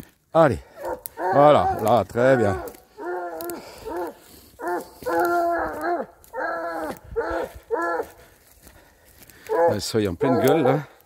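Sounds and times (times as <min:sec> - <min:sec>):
hound baying: 0:00.6 - 0:08.8, 0:09.4 - 0:11.0.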